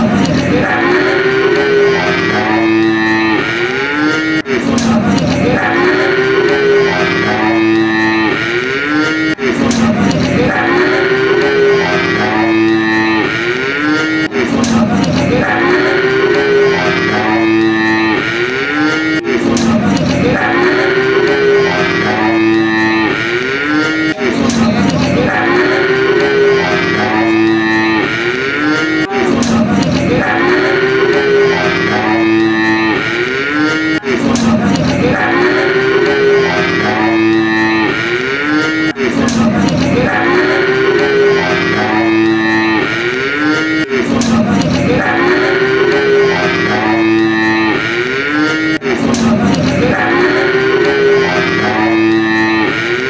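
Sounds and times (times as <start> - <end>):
cattle mooing: 0.0 - 53.0.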